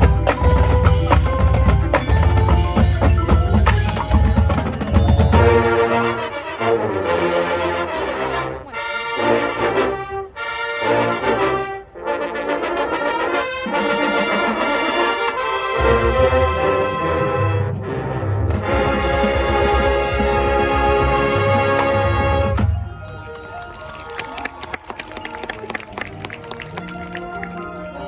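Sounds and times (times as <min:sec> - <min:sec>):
brass band playing chords: 0:00.0 - 0:28.0.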